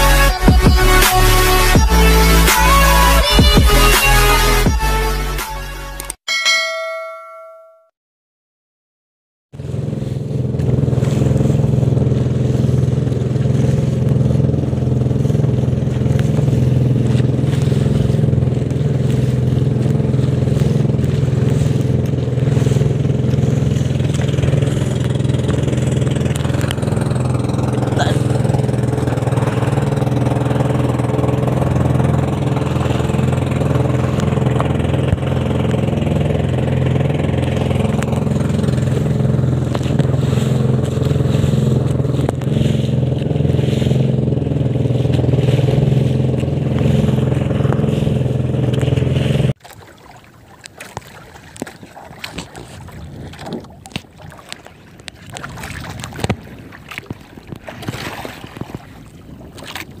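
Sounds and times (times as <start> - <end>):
boat engine droning: 0.0 - 7.9, 9.6 - 60.0
water lapping at a hull: 9.6 - 60.0
wind on microphone: 9.8 - 49.5, 51.3 - 60.0.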